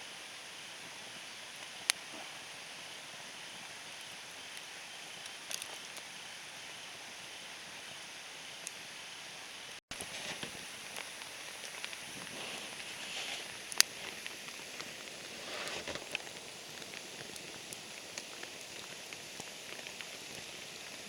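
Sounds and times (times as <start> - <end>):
wood fire crackling and popping: 0.2 - 8.9, 9.9 - 21.0.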